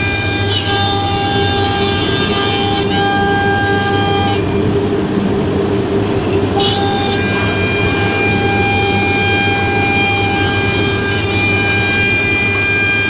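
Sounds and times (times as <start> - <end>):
router spindle high-pitched whine: 0.0 - 5.2, 6.2 - 13.0
machine low running noise: 0.0 - 13.0.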